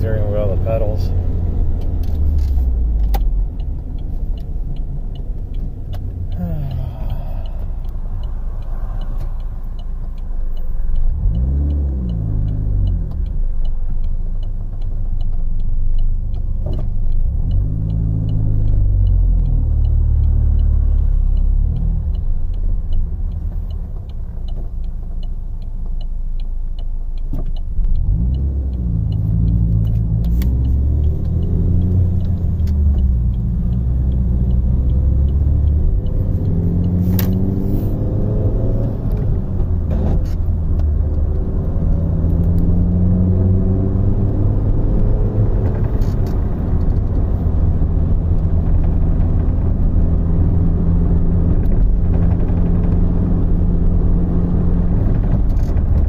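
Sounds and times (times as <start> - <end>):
car engine accelerating: 0.0 - 56.0
road rumble: 0.0 - 56.0
turn signal ticking: 0.0 - 56.0.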